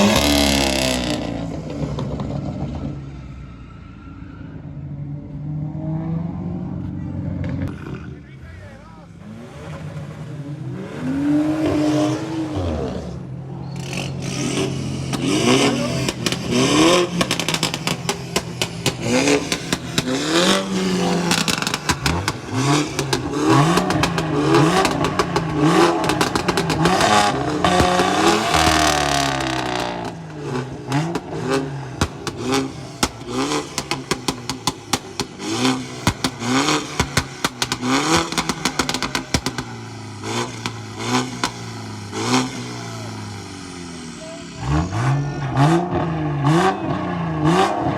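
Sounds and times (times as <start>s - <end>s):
car engines revving: 0.0s - 47.9s
exhaust crackles: 6.8s - 47.9s.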